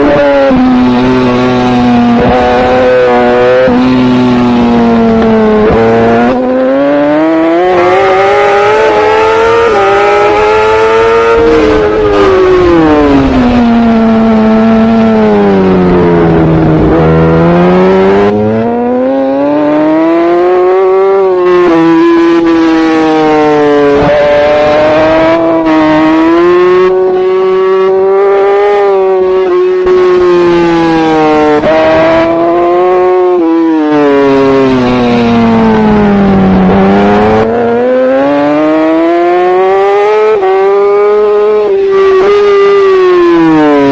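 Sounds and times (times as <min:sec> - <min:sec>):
motorbike engine racing: 0:00.0 - 0:43.9.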